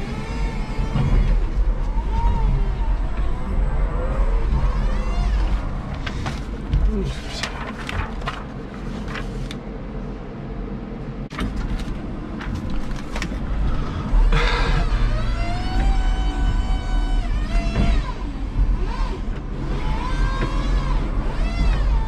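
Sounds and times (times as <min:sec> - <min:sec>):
forklift low rumble: 0:00.0 - 0:22.0.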